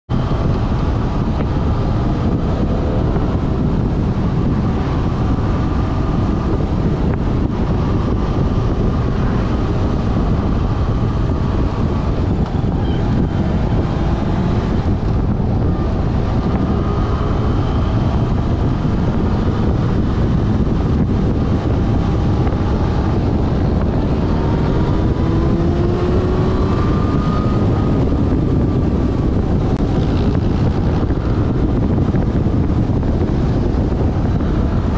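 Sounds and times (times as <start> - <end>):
wind noise on microphone: 0.1 - 34.9.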